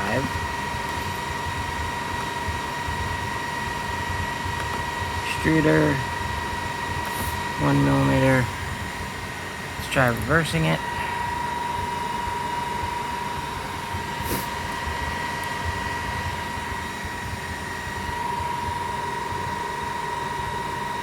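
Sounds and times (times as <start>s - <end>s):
fans humming: 0.0s - 21.0s.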